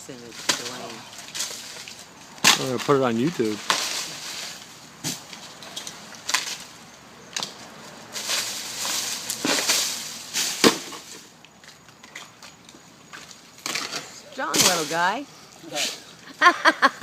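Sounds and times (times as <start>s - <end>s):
brush rustling: 0.0s - 16.3s
twigs and branches snapping: 0.4s - 14.9s.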